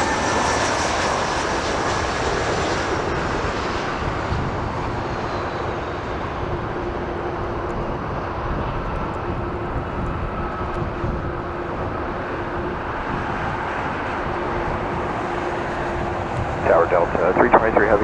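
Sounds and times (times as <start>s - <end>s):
jet airliner engines running: 0.0s - 18.0s.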